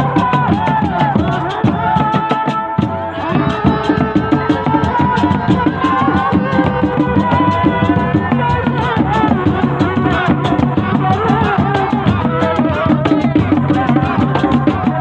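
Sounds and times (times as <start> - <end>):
hand drums fast rhythm: 0.0 - 15.0.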